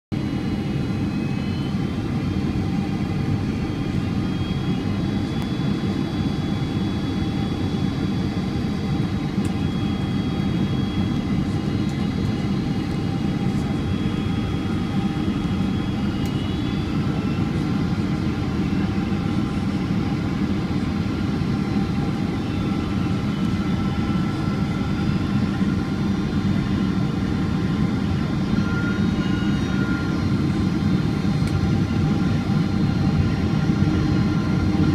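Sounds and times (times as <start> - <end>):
faint high whining tones: 0.2 - 34.9
jet engines running: 0.2 - 34.9.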